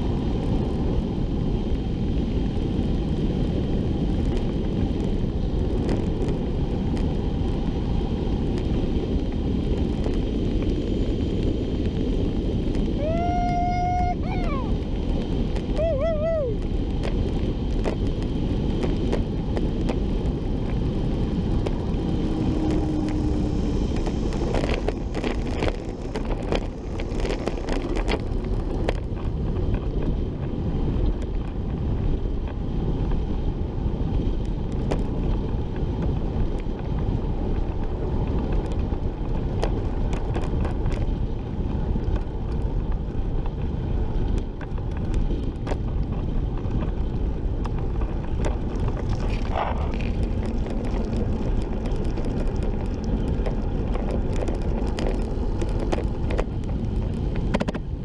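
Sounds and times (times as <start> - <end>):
tyre road noise: 0.0 - 58.0
wind on microphone: 0.0 - 58.0.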